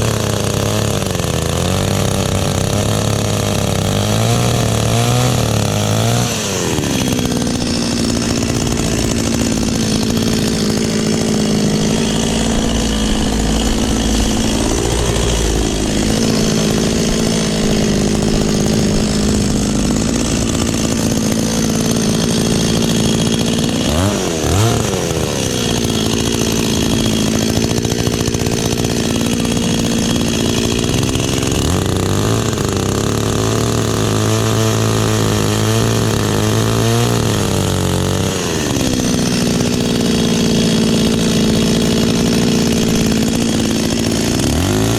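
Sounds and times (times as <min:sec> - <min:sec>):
chainsaw revving and idling: 0:00.0 - 0:44.9.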